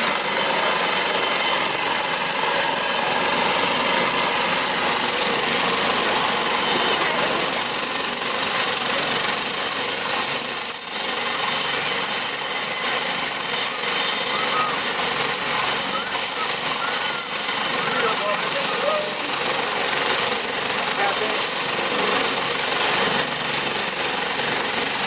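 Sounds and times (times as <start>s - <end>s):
helicopter engine and rotor: 0.0s - 25.0s
high-pitched turbine whine: 0.0s - 25.0s.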